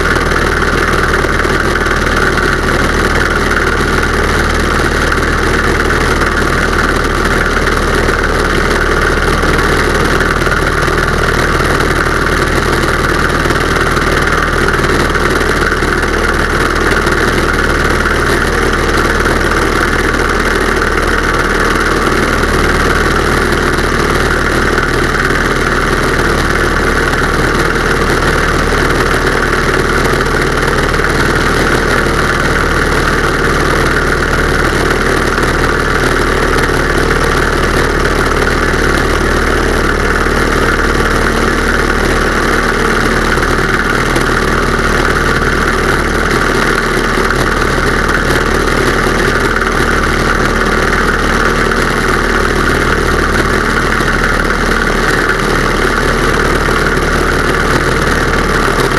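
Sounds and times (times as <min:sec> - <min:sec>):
airplane engine and propeller: 0:00.0 - 0:58.9.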